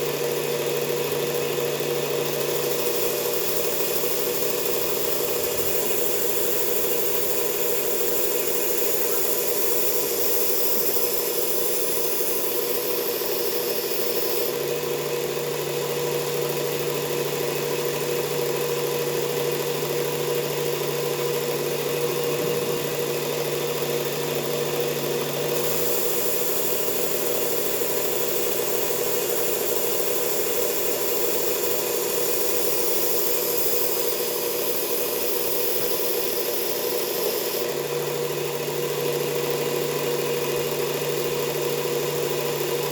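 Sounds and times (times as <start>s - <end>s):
belt grinder grinding blade: 0.0s - 42.9s.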